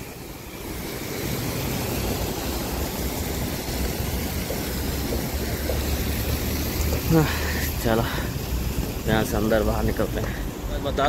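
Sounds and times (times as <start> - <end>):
traffic rumble: 0.0 - 11.0
water fountain splashing: 0.0 - 11.0.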